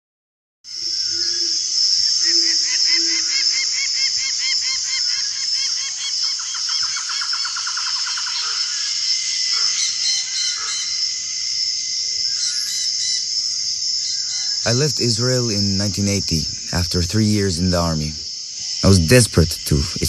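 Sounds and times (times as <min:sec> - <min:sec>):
high insect drone: 0:00.7 - 0:20.0.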